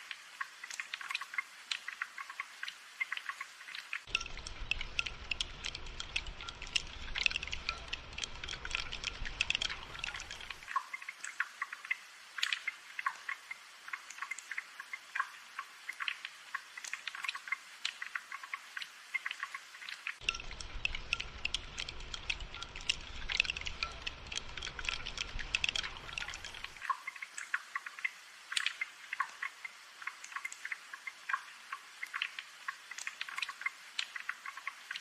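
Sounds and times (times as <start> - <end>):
rain patter: 0.0 - 35.0.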